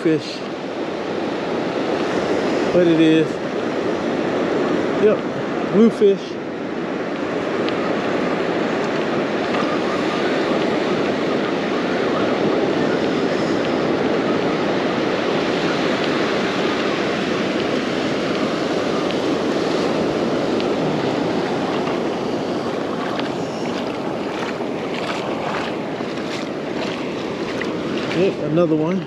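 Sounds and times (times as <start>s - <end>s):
surf washing up beach: 0.0s - 29.0s
wind on microphone: 0.0s - 29.0s.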